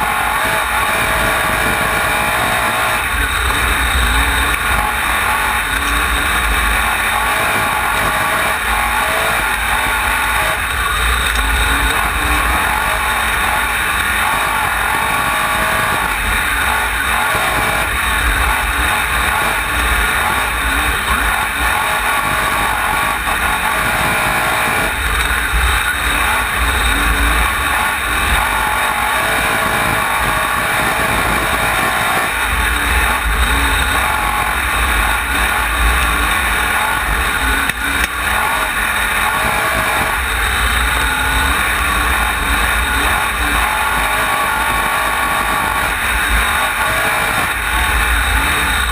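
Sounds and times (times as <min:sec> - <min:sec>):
racing car engine running hard: 0:00.0 - 0:48.9.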